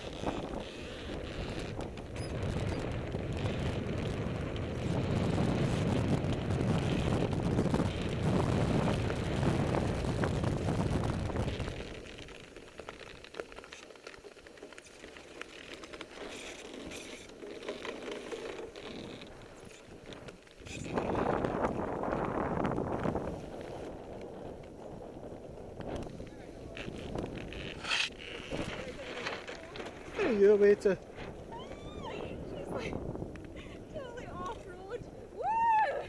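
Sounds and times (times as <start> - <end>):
wind buffeting microphone: 0.0 - 12.4, 18.4 - 36.0
wheels rolling over sand: 0.0 - 36.0.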